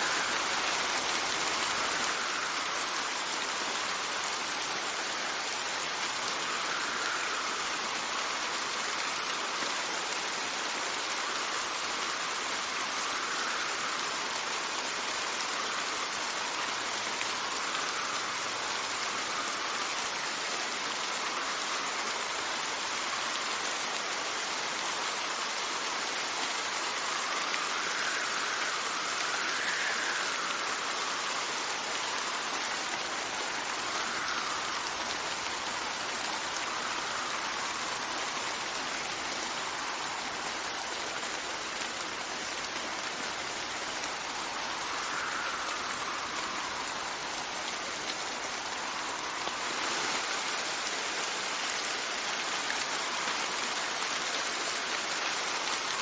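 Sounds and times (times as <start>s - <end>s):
rain hissing: 0.0s - 56.0s
wind gusts: 0.0s - 56.0s.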